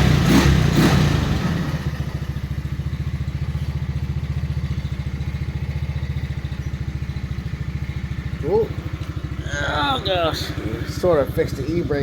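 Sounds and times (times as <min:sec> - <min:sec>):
go-kart engine idling: 0:00.0 - 0:12.0.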